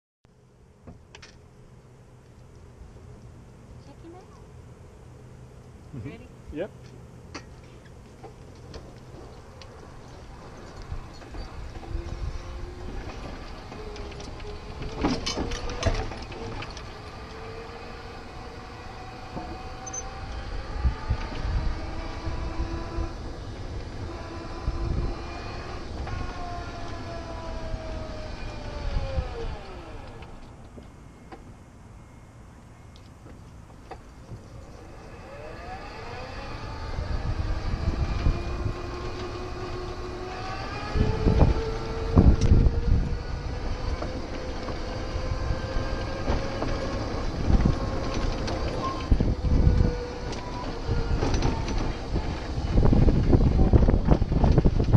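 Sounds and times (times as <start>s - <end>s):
wind: 0.2s - 54.9s
faint motor whine: 0.3s - 54.9s
golf cart rumble: 0.6s - 31.7s, 32.6s - 54.9s.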